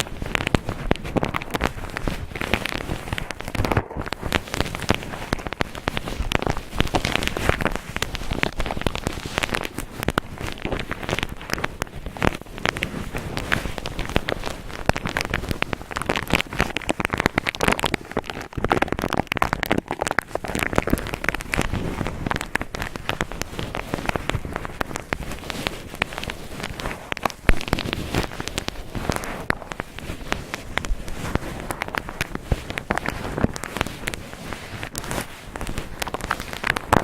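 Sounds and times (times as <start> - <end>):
cotton rubbing on microphone: 0.0 - 37.0.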